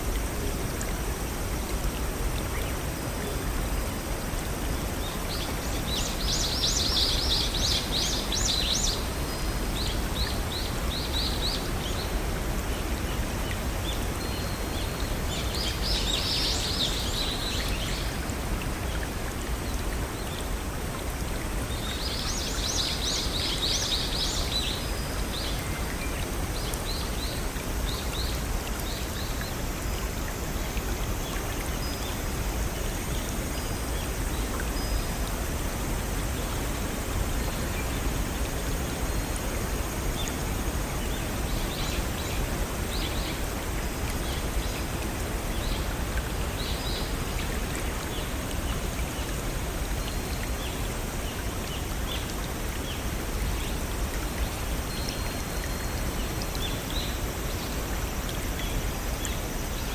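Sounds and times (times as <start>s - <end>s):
water rushing from small waterfall: 0.0s - 59.9s.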